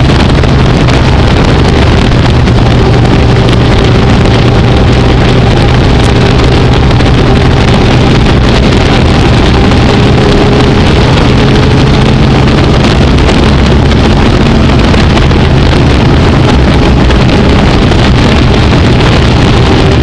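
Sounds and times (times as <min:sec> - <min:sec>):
race car engine running hard: 0:00.0 - 0:20.0
wind noise on microphone: 0:00.0 - 0:20.0.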